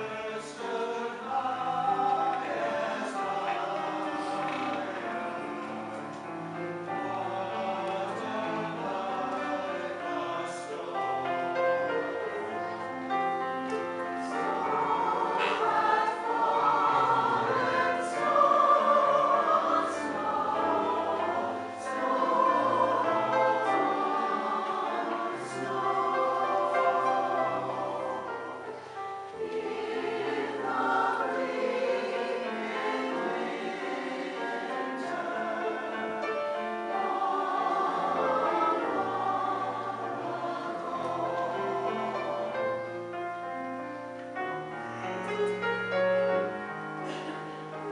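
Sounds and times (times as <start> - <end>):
chorus singing chords: 0.0 - 47.9.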